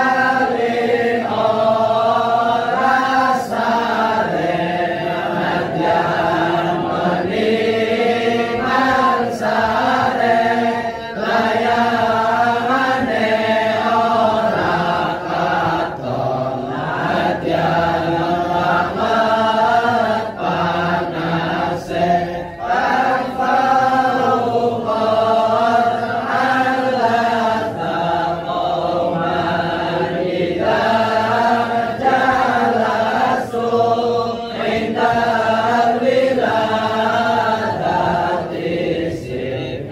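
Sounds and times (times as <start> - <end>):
crowd of men chanting: 0.0 - 39.9.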